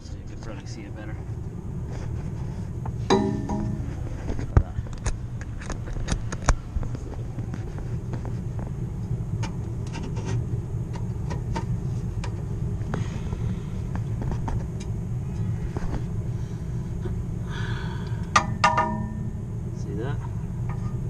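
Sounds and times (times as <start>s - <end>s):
hvac equipment rumble: 0.0s - 21.0s.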